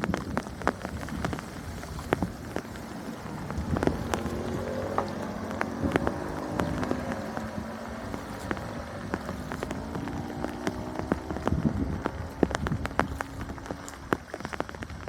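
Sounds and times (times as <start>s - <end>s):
sharp water drips and knocks: 0.0s - 15.0s
water splashing: 0.0s - 15.0s.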